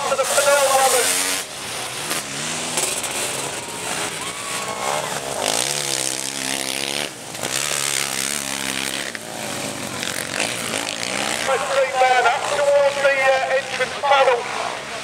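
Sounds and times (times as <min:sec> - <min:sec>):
motorcycle engines revving hard: 0:00.0 - 0:15.0.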